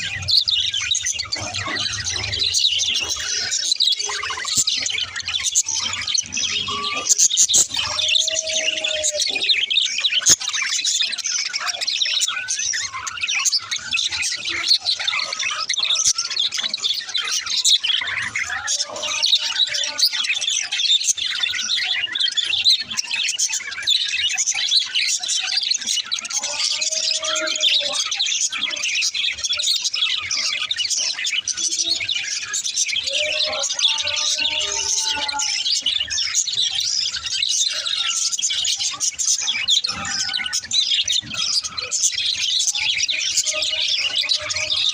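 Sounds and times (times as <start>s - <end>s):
budgerigars chirping: 0.0s - 44.9s
low warbling bird calls: 0.0s - 44.9s.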